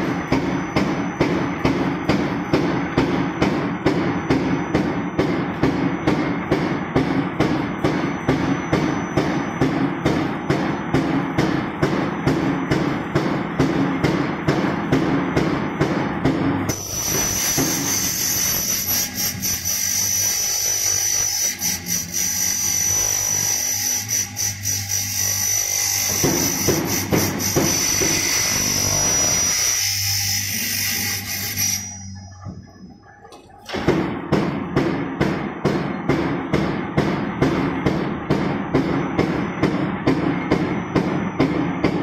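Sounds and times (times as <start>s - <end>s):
machine high whine: 0.0s - 33.9s.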